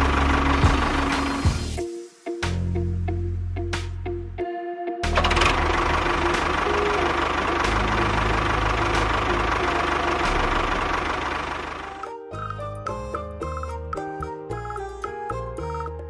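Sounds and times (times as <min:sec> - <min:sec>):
music: 0:00.0 - 0:16.0.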